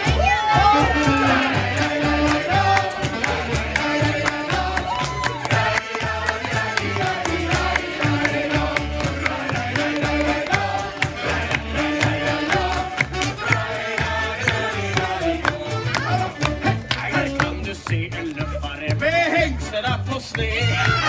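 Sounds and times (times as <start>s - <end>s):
folk band playing: 0.0s - 21.0s.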